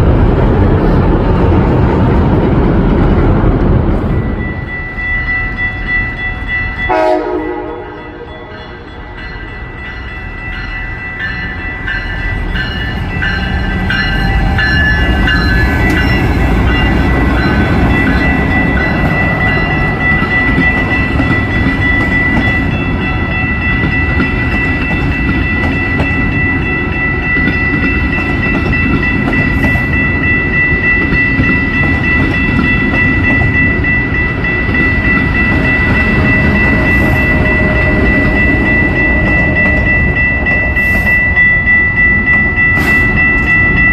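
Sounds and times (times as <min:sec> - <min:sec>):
train passing: 0:00.0 - 0:43.9
high-pitched ringing tone: 0:04.2 - 0:43.9.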